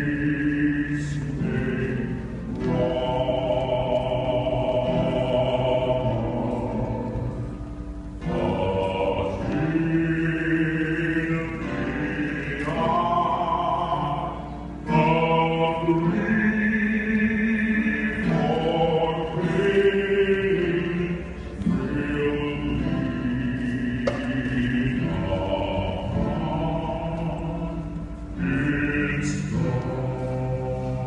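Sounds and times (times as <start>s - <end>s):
choir singing a hymn: 0.0s - 7.4s, 8.1s - 31.0s
pipe organ: 0.0s - 31.0s.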